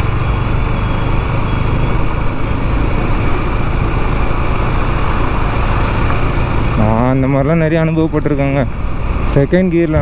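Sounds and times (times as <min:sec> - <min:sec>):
motorcycle engine running: 0:00.0 - 0:10.0
road traffic: 0:00.0 - 0:10.0.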